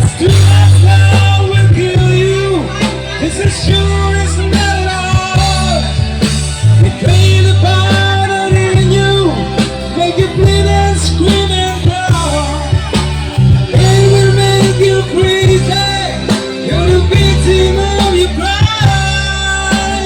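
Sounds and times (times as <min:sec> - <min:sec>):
slow rock ballad band music: 0:00.0 - 0:20.0.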